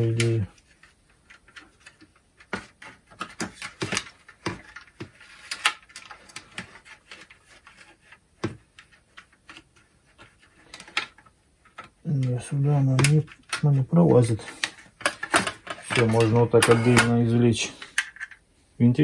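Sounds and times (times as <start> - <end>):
plastic parts clicking and rustling: 0.0 - 18.4.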